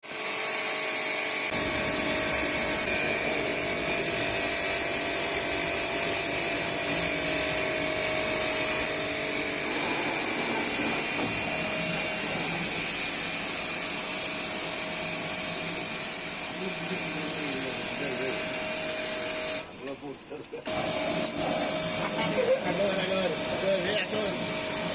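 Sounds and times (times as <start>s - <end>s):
pressure washer running: 0.1s - 24.9s.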